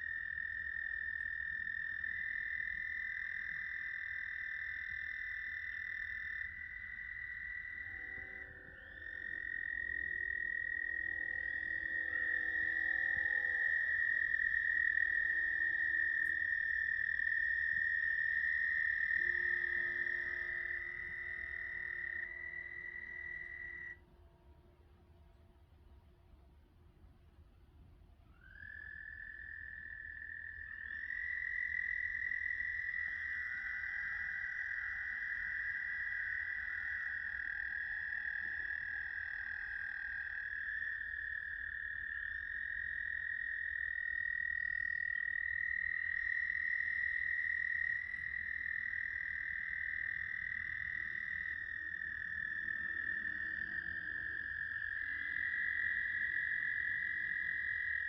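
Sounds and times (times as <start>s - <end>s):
toads trilling: 0.0s - 24.0s, 28.3s - 58.0s.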